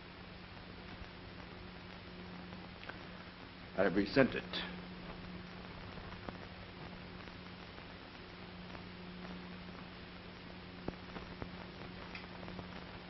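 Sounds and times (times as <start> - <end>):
film soundtrack hiss: 0.0 - 13.0
low hum: 0.0 - 13.0
faint crackling clicks: 0.5 - 3.5, 4.4 - 13.0.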